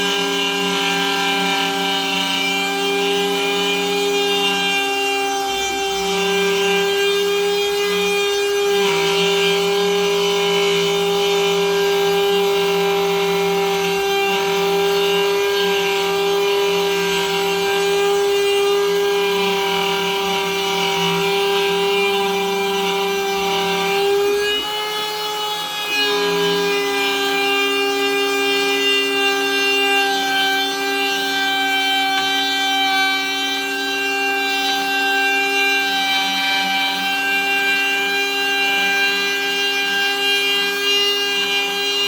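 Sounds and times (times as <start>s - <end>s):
bit rasping through wood: 0.0s - 42.0s
router spindle whining: 0.0s - 42.0s.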